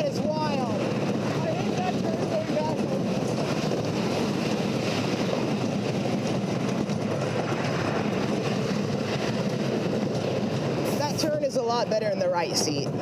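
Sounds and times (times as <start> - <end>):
roller coaster rumbling clatter: 0.0 - 13.0.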